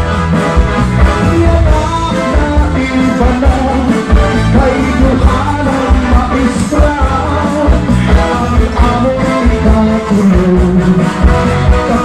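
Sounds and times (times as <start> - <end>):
live band playing cha-cha-cha: 0.0 - 12.0.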